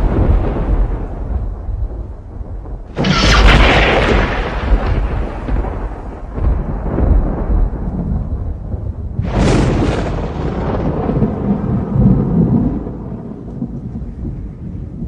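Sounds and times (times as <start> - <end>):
sharp thunderclap: 0.0 - 15.0
thunder rumbling: 0.0 - 15.0.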